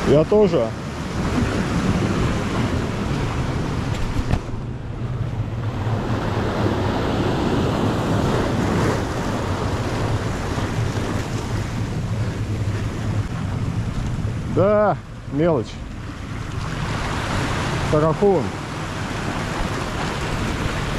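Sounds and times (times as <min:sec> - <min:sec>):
waves breaking over rocks: 0:00.0 - 0:20.9
wind buffeting microphone: 0:00.0 - 0:20.9.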